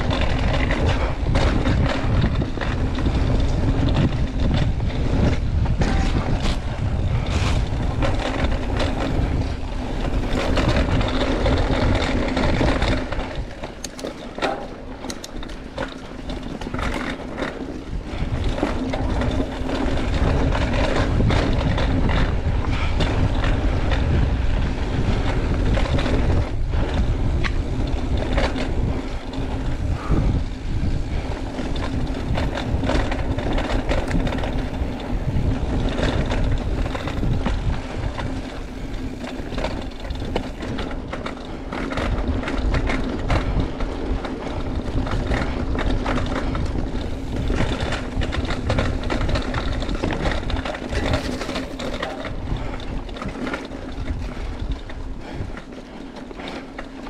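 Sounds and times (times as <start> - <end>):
bike clicks and rattles: 0.0 - 57.0
bike tyres rolling on dirt: 0.0 - 57.0
wind buffeting microphone: 0.0 - 57.0.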